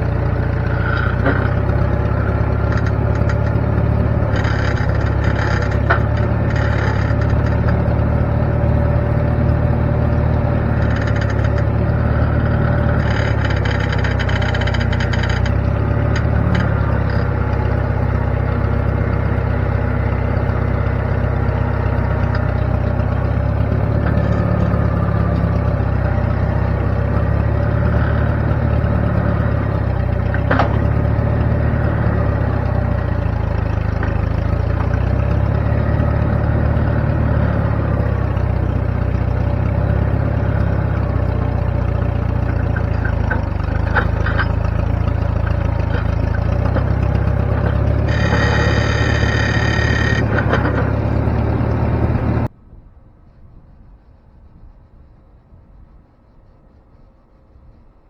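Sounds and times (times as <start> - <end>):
engine running steadily: 0.0 - 52.5.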